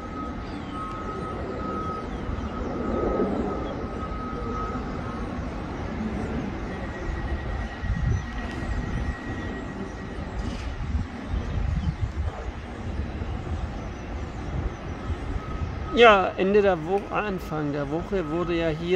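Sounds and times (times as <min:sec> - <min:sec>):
distant traffic and machinery rumble: 0:00.0 - 0:18.9
faint high whine: 0:00.0 - 0:18.9.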